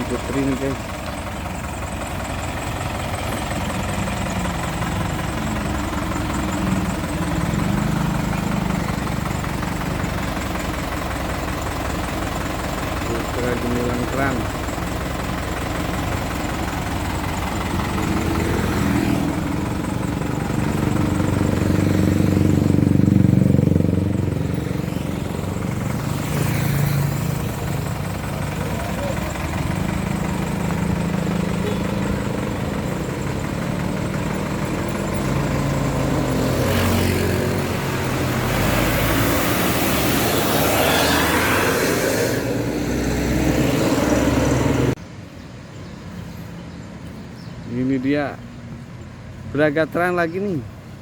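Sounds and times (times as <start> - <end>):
passing vehicle engines: 0.0 - 51.0.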